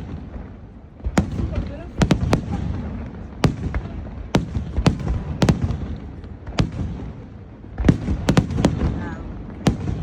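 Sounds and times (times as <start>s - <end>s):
fireworks bangs: 0.0s - 10.0s
low rumble of explosions: 0.0s - 10.0s.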